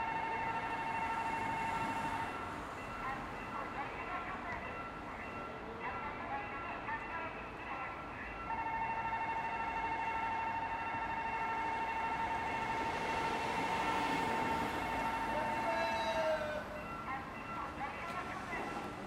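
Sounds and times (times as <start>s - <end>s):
railroad crossing warning tone: 0.0s - 19.0s.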